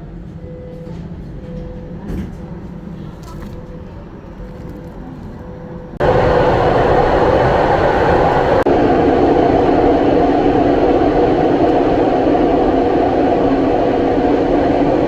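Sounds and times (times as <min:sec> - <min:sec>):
train rumbling underground: 0:00.0 - 0:15.0.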